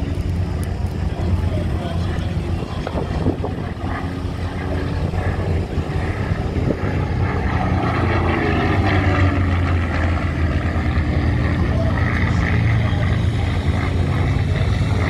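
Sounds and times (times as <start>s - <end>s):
piston aircraft engine droning: 0.0s - 15.0s.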